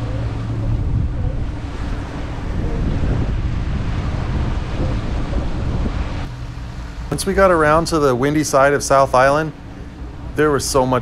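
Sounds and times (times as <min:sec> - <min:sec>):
outboard boat engine running: 0:00.0 - 0:11.0
rush of boat wake: 0:00.0 - 0:11.0
wind buffeting microphone: 0:00.0 - 0:11.0.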